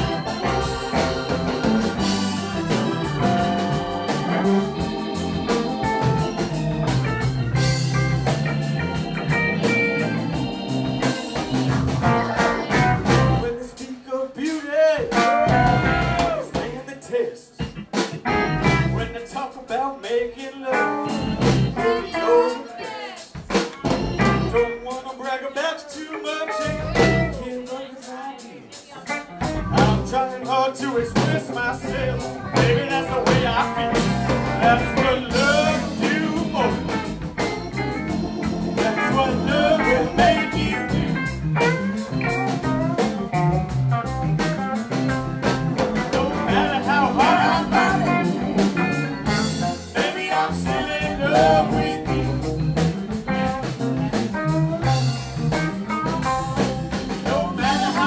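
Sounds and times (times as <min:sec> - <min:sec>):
electric guitar: 0:00.0 - 0:13.5, 0:15.2 - 0:16.6, 0:17.6 - 0:19.2, 0:20.8 - 0:22.8, 0:26.5 - 0:27.4, 0:29.0 - 0:58.0
electric bass: 0:00.0 - 0:13.6, 0:15.4 - 0:16.4, 0:17.6 - 0:19.2, 0:21.0 - 0:22.1, 0:23.8 - 0:24.7, 0:26.6 - 0:27.4, 0:29.4 - 0:30.2, 0:31.0 - 0:58.0
drum kit: 0:00.0 - 0:17.0, 0:17.6 - 0:25.3, 0:25.9 - 0:28.1, 0:28.7 - 0:58.0.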